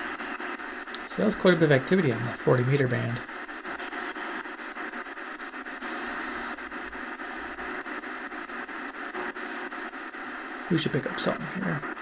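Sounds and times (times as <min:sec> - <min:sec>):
faint crackles: 0:00.0 - 0:12.0
radio static hissing: 0:00.0 - 0:12.0.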